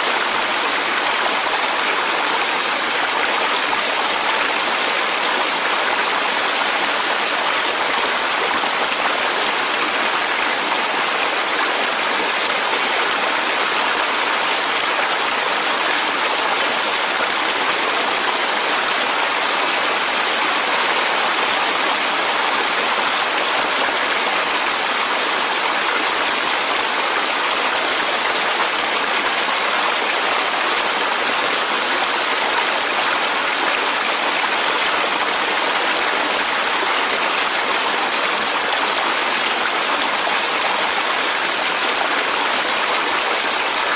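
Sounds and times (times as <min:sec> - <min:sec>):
stream flowing over rocks: 0:00.0 - 0:43.9.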